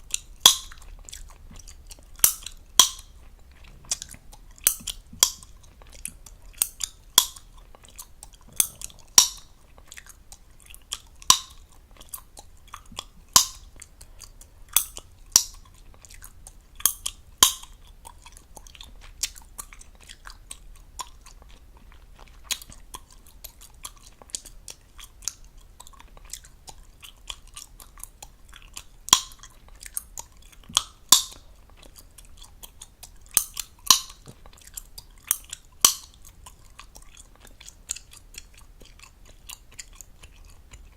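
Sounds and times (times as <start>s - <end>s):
wet gum chewing: 0.0s - 40.9s
gum pops: 0.1s - 21.4s, 22.4s - 40.9s.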